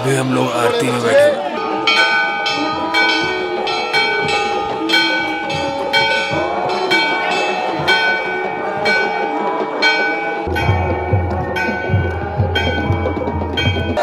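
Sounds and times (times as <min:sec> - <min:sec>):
temple bells ringing: 0:00.0 - 0:14.0.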